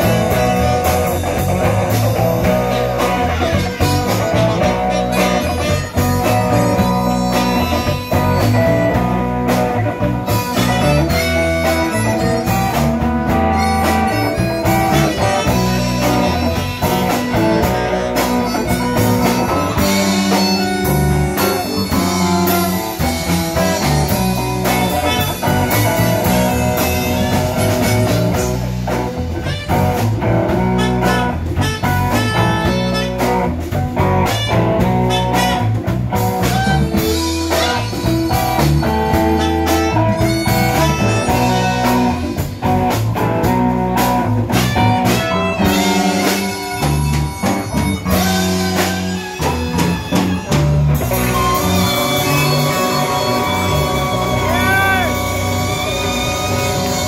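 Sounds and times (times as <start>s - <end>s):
harmonica: 0.0s - 42.8s, 43.4s - 57.0s
bass guitar: 0.0s - 57.0s
electric guitars: 0.0s - 57.0s.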